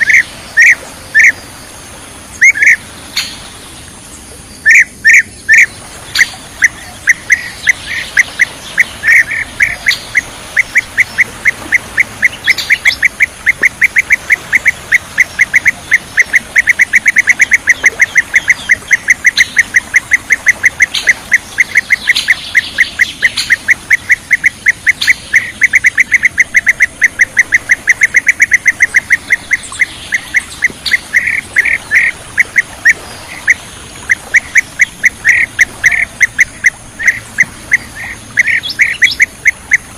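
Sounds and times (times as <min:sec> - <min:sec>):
bird calling fast clipped notes: 0:04.7 - 0:39.8.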